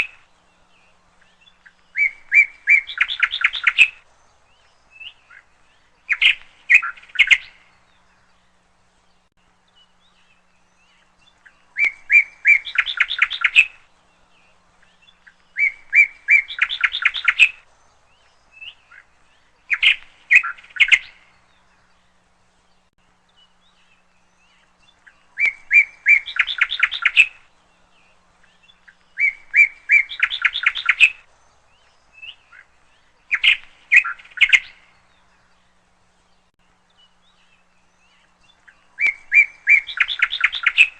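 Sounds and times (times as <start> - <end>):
songbird whistling and trilling: 0.0 - 7.8, 9.7 - 13.9, 14.8 - 21.4, 23.5 - 35.4, 37.0 - 40.9.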